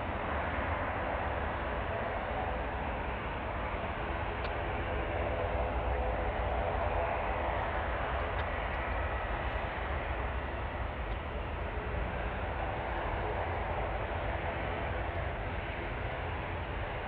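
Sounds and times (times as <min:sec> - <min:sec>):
distant jet engines taxiing: 0:00.0 - 0:17.0.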